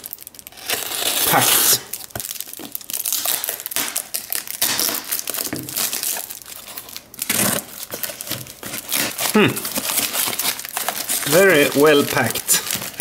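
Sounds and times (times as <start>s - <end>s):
plastic wrap and tape crinkling: 0.0s - 13.0s.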